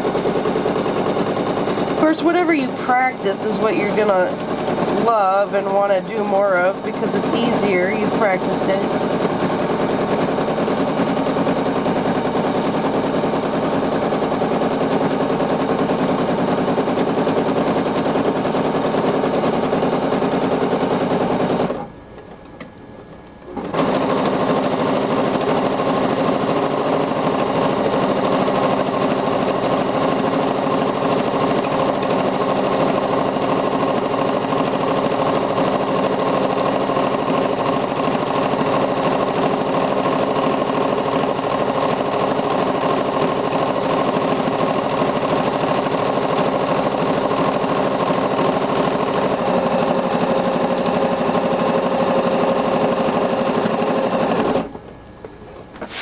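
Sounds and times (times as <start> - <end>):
sewing machine stitching: 0.0 - 22.0, 23.5 - 54.9.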